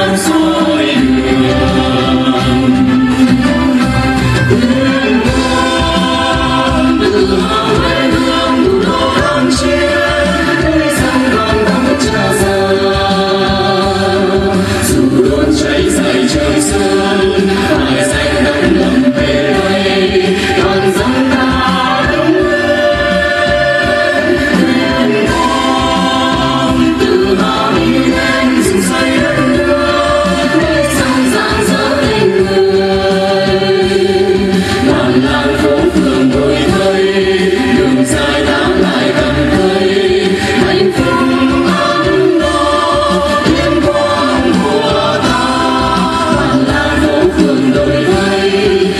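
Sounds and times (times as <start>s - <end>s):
group singing in chorus: 0.0s - 48.9s
instrumental accompaniment: 0.0s - 48.9s.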